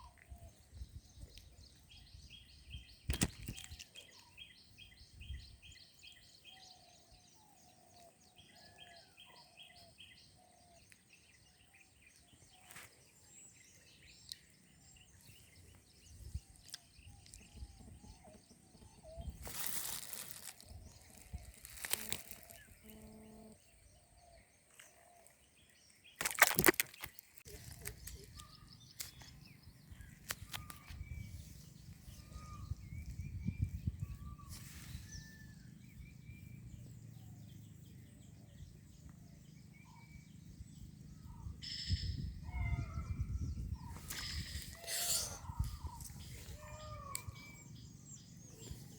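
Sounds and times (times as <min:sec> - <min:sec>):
birds calling and chirping: 0:00.0 - 0:48.9.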